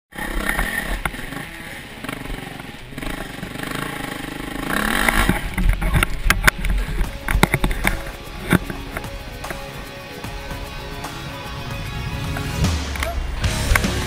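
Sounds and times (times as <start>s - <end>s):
dirt bike engine revving: 0.1s - 14.0s.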